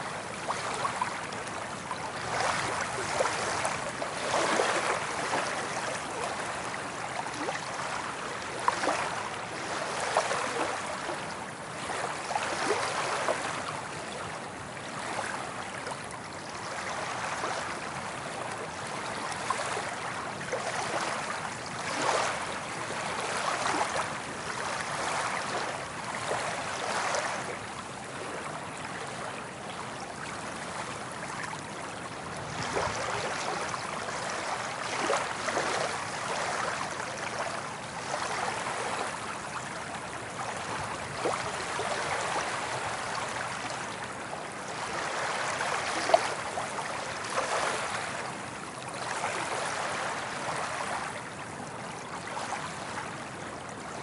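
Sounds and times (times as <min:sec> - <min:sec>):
ocean waves washing on beach: 0:00.0 - 0:54.0.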